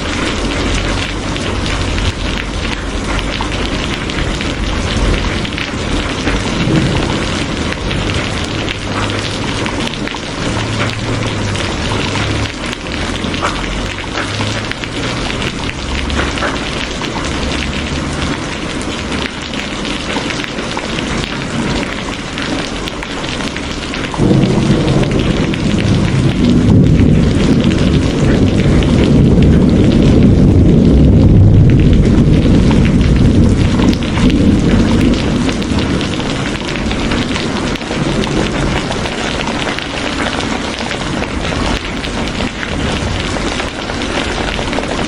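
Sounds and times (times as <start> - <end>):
heavy rain hiss: 0.0 - 45.0
thunder rumbling: 0.0 - 45.0.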